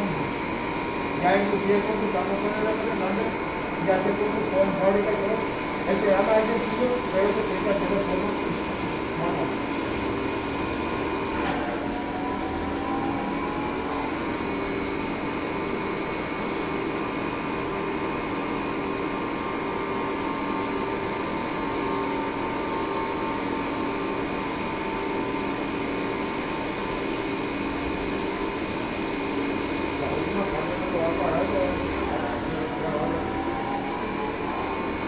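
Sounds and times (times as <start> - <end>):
lathe humming and whining: 0.0 - 35.0.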